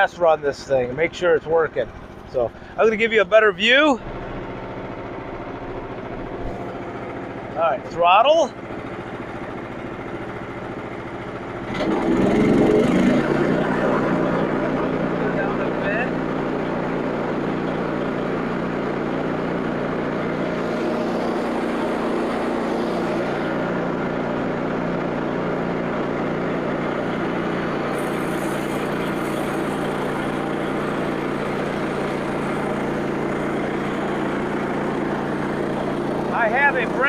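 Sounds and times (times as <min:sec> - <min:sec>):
sawmill gasoline engine running: 0:00.0 - 0:37.0.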